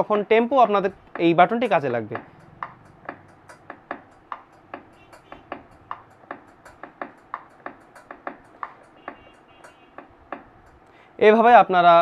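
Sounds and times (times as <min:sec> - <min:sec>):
keyboard rhythm ticks: 0:00.0 - 0:11.3.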